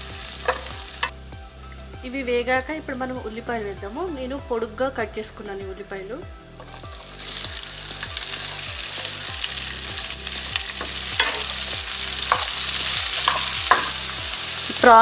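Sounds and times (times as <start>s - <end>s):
onions sizzling in hot oil: 0.0s - 3.7s, 6.5s - 15.0s.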